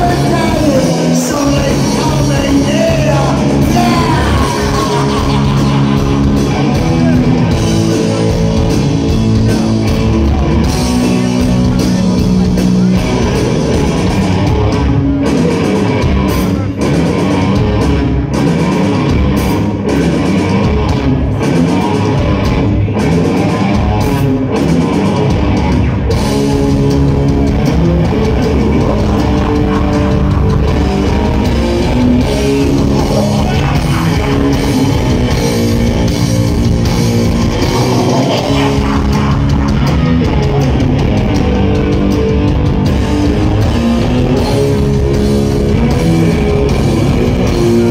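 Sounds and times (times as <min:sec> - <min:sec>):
heavy metal band playing: 0:00.0 - 0:47.9.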